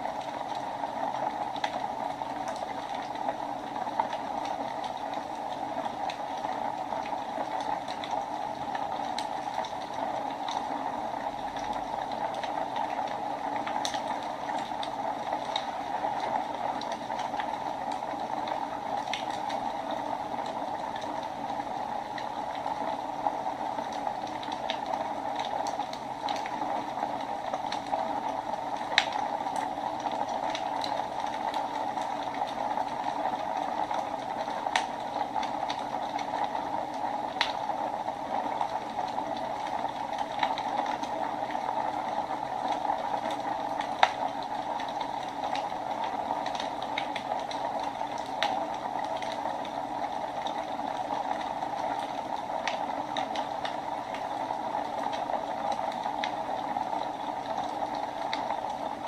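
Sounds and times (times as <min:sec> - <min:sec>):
fire crackles and pops: 0:00.0 - 0:59.0
wood fire hissing: 0:00.0 - 0:59.0.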